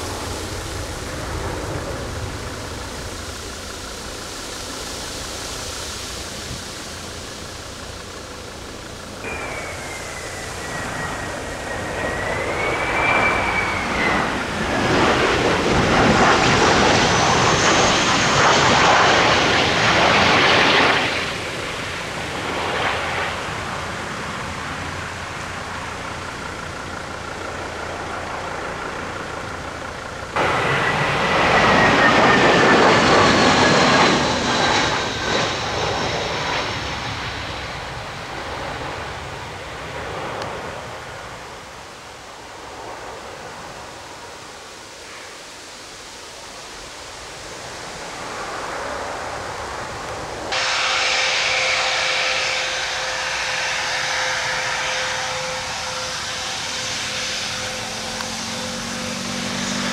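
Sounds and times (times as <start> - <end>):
airliner engines with whine: 0.0 - 59.9.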